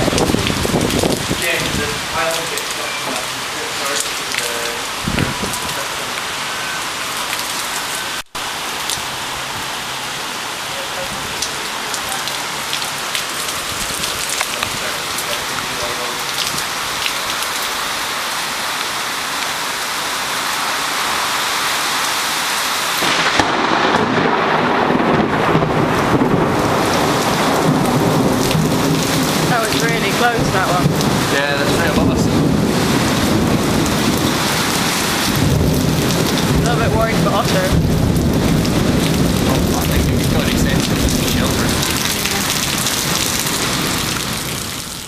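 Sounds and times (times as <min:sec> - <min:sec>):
heavy rain on roofs: 0:00.0 - 0:45.0.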